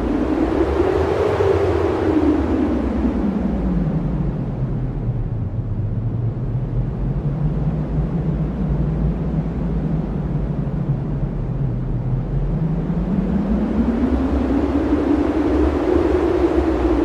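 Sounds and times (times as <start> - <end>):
strong wind howling: 0.0 - 17.0.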